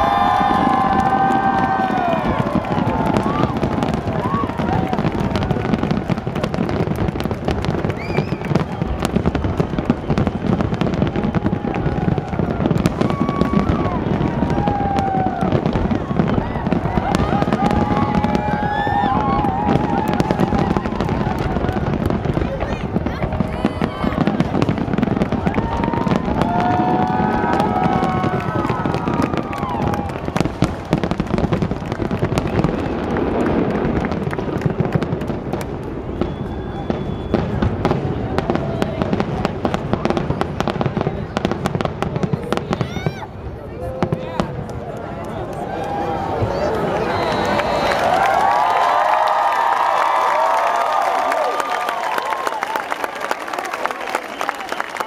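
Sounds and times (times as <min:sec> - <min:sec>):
fireworks whistling: 0:00.0 - 0:43.2, 0:46.4 - 0:49.0
fireworks bangs and crackles: 0:00.0 - 0:55.0.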